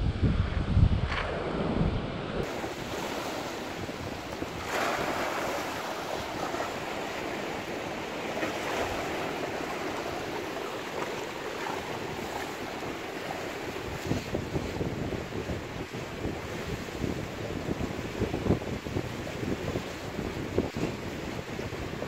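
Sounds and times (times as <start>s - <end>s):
surf breaking over rocks: 0.3s - 22.0s.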